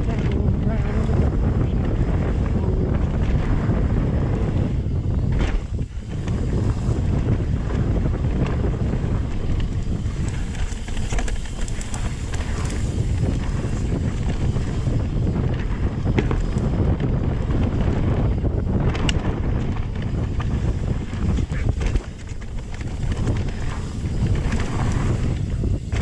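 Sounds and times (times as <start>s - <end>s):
bike tyre rumble on dirt: 0.0s - 26.0s
stones and bike rattling: 0.0s - 26.0s
wind buffeting microphone: 0.0s - 26.0s.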